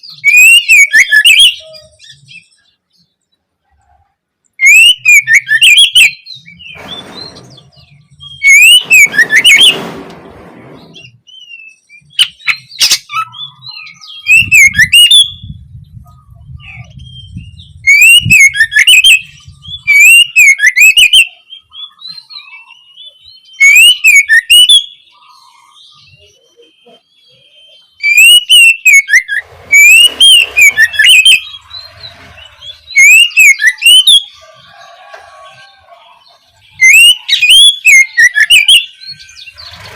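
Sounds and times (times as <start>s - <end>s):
bird singing whistled phrases: 0.0s - 2.7s, 4.6s - 9.8s, 10.8s - 15.6s, 16.4s - 34.4s, 36.6s - 39.8s.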